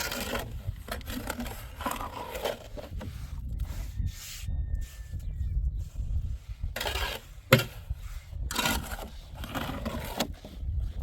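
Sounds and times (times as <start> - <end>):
scraping on masonry: 0.0 - 4.4, 6.6 - 11.0.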